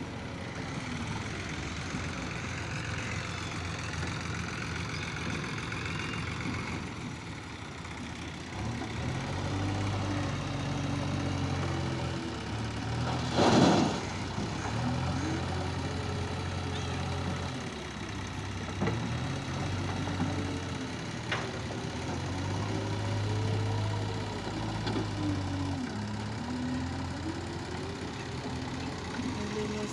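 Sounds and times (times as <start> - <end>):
heavy diesel engine running: 0.0 - 29.9.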